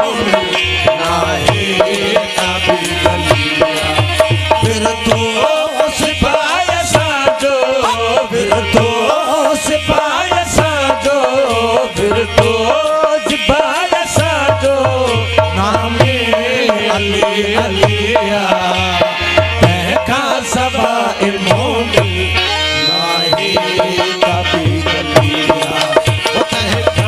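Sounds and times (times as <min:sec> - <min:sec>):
hand drum rhythm: 0:00.0 - 0:27.0
harmonium melody: 0:00.0 - 0:27.0.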